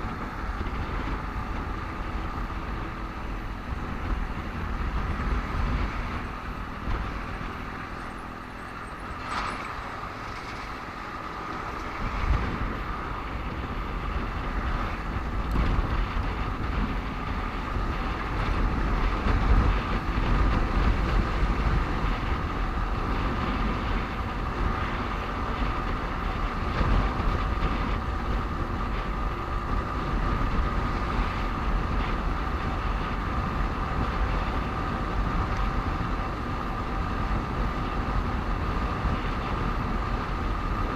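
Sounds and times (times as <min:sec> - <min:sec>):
motorcycle engine and tyre rumble: 0:00.0 - 0:40.9
wind buffeting microphone: 0:00.0 - 0:40.9.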